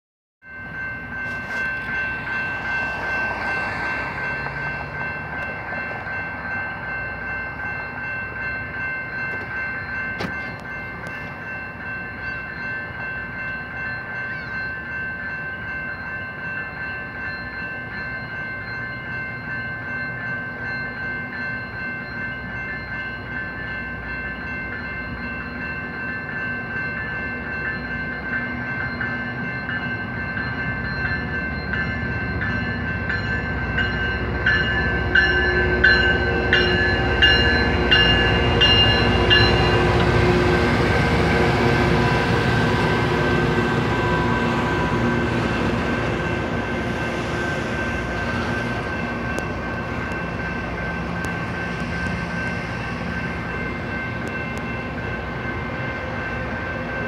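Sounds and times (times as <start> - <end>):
crossing warning bell ringing: 0.4 - 57.0.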